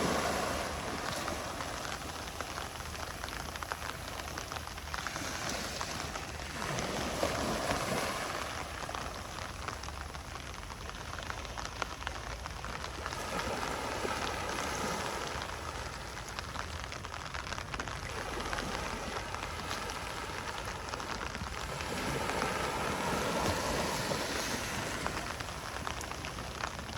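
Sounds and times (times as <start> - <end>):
ocean waves washing onto beach: 0.0 - 26.9.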